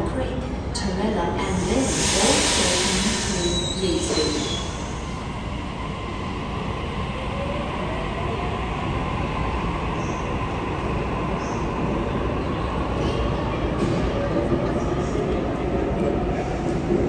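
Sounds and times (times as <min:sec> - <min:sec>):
electric train rumbling: 0:00.4 - 0:17.0.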